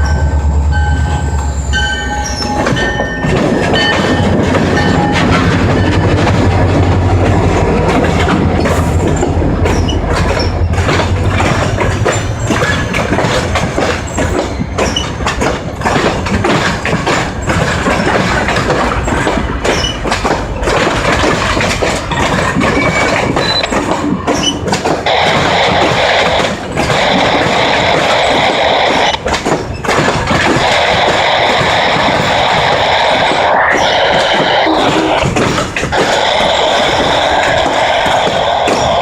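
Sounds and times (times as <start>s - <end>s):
locomotive engine rumble: 0.0s - 39.0s
train wheels clattering over rail joints: 1.1s - 39.0s.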